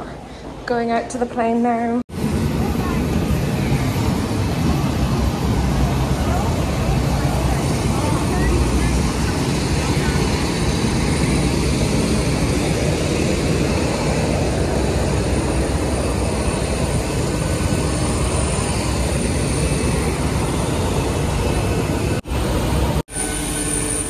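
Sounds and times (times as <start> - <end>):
high jet whine: 0.0 - 24.0
jet aircraft deep rush: 2.0 - 24.0.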